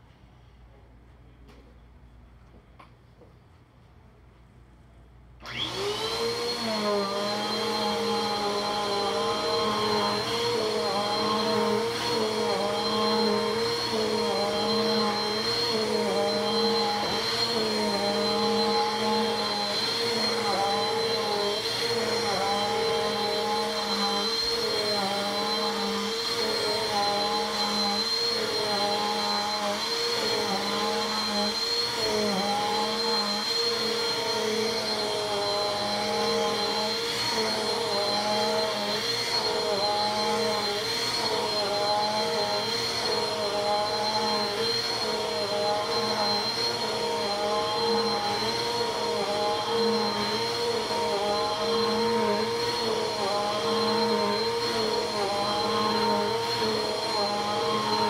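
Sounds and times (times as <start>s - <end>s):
vacuum cleaner whining: 5.4s - 58.0s.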